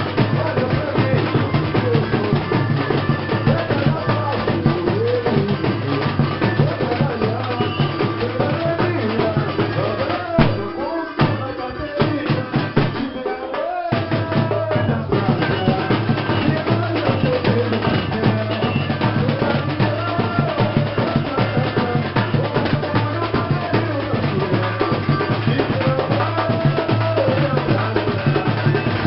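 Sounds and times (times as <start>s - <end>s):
samba percussion group drumming: 0.0s - 29.0s.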